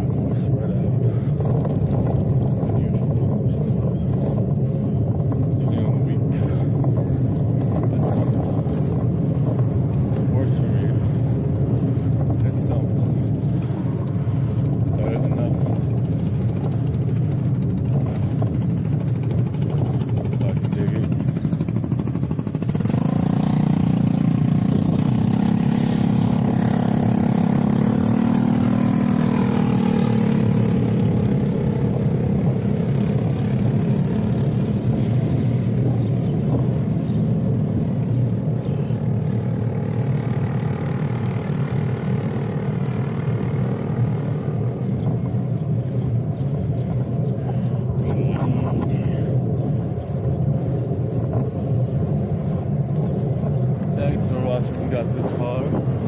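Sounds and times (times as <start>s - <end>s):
vehicle engine running: 0.0s - 56.0s
wind buffeting microphone: 0.0s - 56.0s.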